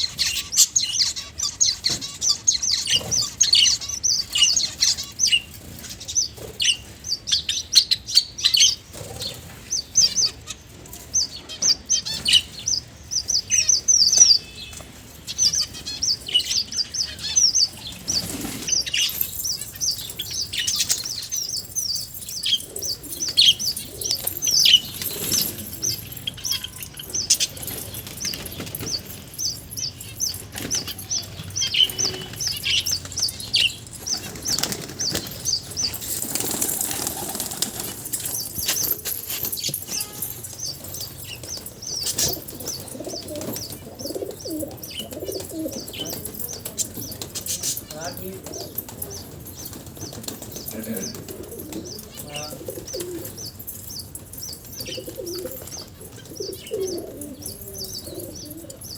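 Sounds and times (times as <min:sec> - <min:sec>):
finches chirping: 0:00.0 - 0:36.7, 0:37.7 - 0:58.9.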